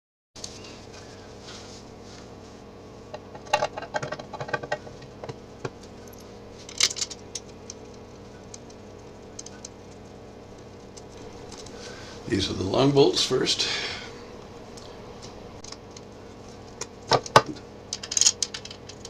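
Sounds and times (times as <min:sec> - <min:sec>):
faint steady hum: 0:00.4 - 0:19.0.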